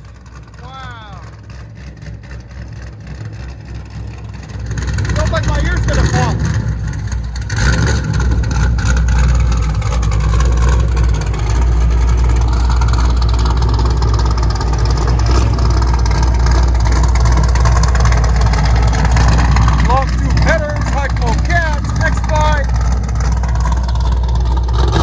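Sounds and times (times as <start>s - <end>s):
loud car engine running: 0.0s - 25.0s.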